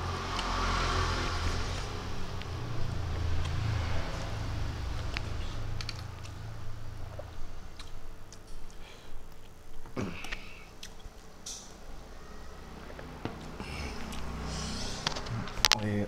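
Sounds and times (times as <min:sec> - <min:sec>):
man chewing: 0:00.3 - 0:11.7, 0:12.8 - 0:15.6.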